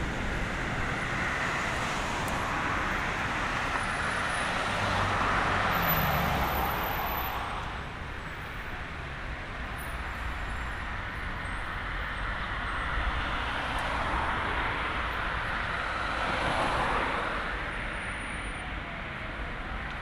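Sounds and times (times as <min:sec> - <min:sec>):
passing road traffic: 0:00.0 - 0:20.0.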